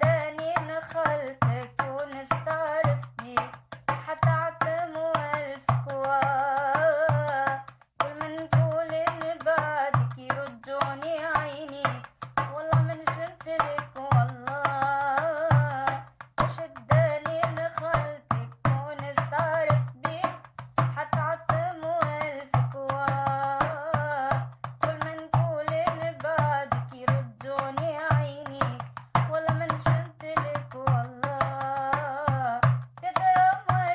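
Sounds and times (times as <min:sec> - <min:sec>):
drum beat and percussion: 0:00.0 - 0:33.9
woman singing: 0:00.0 - 0:33.9.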